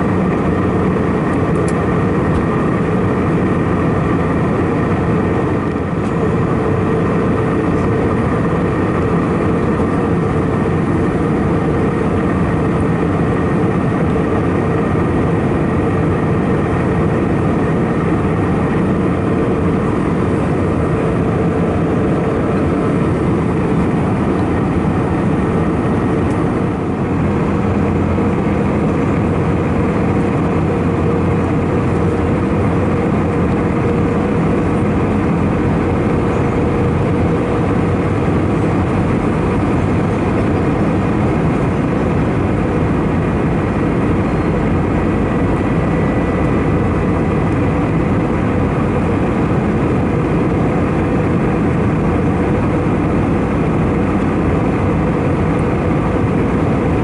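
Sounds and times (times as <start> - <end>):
airflow rush in cabin: 0.0 - 57.0
jet engines humming: 0.0 - 57.0.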